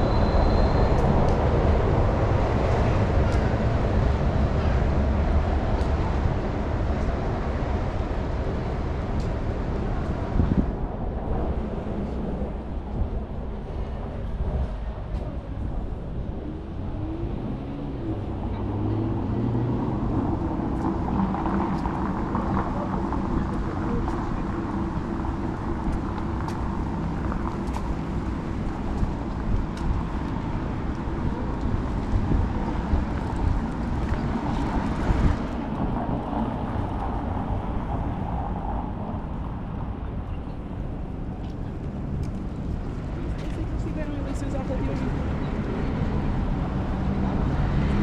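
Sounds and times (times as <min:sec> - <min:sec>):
faint voices of passers-by: 0:00.0 - 0:48.0
traffic passing: 0:00.0 - 0:48.0.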